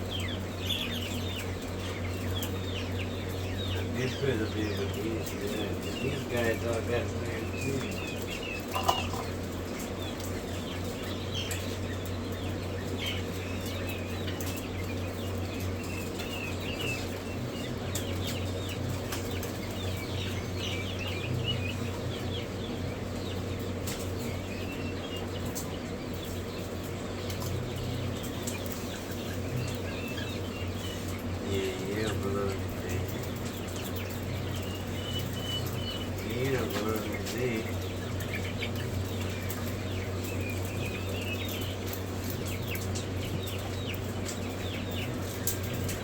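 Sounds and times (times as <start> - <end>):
chicks chirping and peeping: 0.0 - 46.0
low mechanical hum: 0.0 - 46.0.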